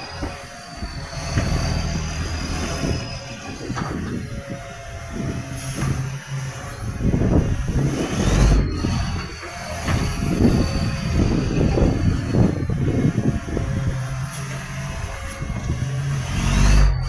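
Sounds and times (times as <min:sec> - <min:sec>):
diesel truck engine running rough: 0:00.0 - 0:17.0
high whine: 0:00.0 - 0:17.0.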